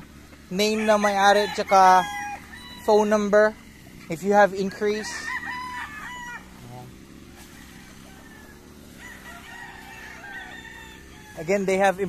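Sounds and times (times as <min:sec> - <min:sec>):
roosters crowing: 0:00.0 - 0:12.0.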